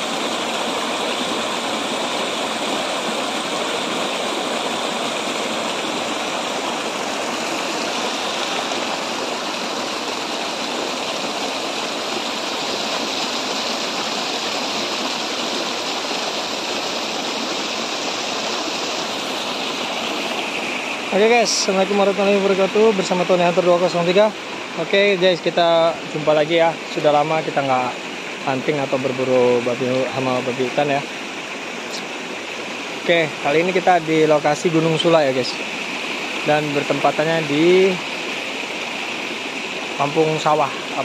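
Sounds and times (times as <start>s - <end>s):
stream splashing over rocks: 0.0s - 41.0s.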